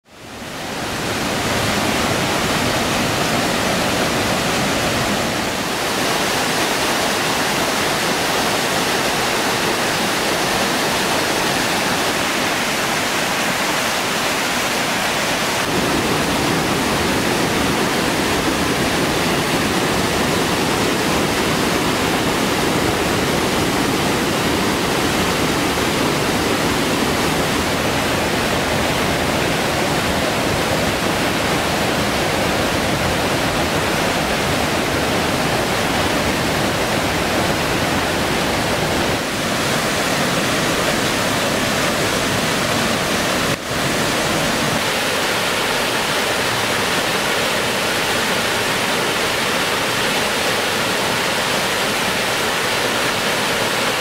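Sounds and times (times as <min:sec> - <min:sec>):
waterfall rushing: 0:00.1 - 0:54.0.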